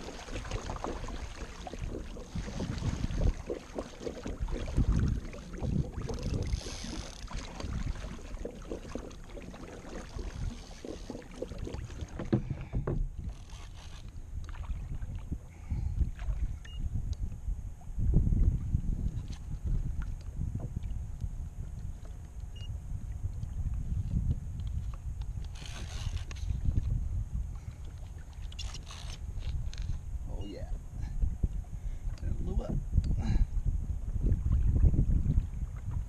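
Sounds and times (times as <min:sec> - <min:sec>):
wind buffeting microphone: 0:00.0 - 0:13.4, 0:14.1 - 0:36.0
water splashing against hull: 0:00.0 - 0:30.3, 0:30.9 - 0:36.0.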